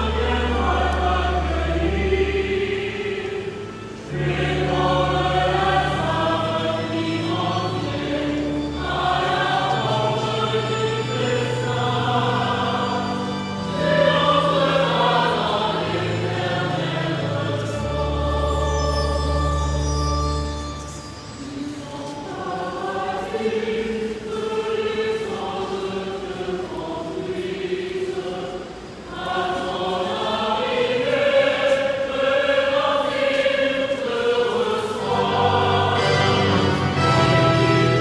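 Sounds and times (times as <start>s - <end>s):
choir singing: 0.0s - 38.0s
low musical accompaniment: 0.0s - 38.0s.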